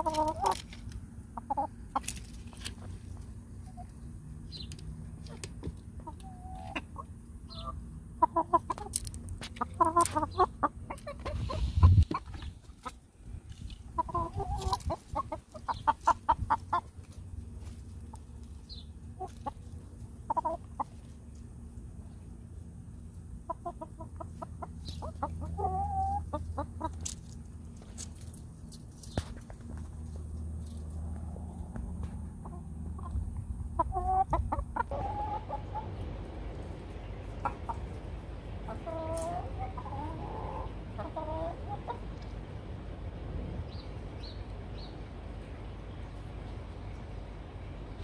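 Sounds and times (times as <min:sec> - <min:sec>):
hens clucking: 0:00.0 - 0:48.0.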